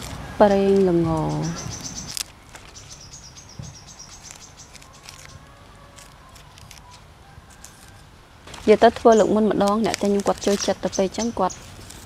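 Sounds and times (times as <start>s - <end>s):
leafy greens rustling and snapping: 0.0s - 12.0s.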